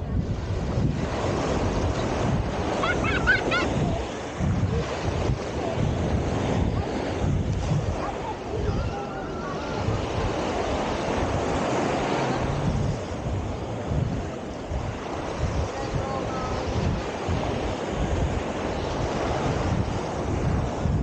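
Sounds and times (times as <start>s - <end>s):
ocean surf: 0.0s - 21.0s
wind buffeting microphone: 0.0s - 21.0s.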